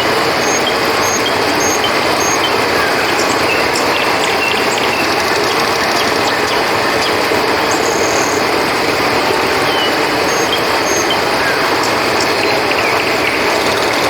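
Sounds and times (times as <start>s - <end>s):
faint high chirps: 0.0s - 8.6s, 9.6s - 14.0s
river water rushing: 0.0s - 14.0s.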